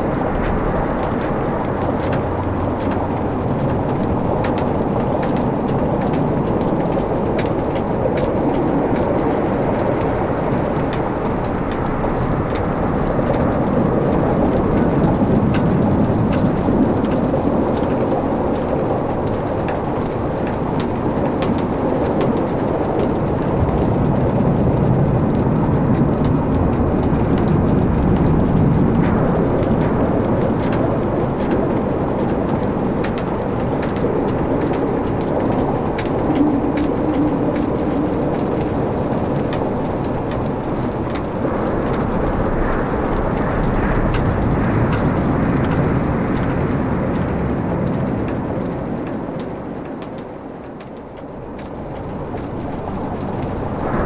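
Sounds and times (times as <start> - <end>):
logs crackling and popping: 0.0 - 54.0
low rush of flames: 0.0 - 54.0.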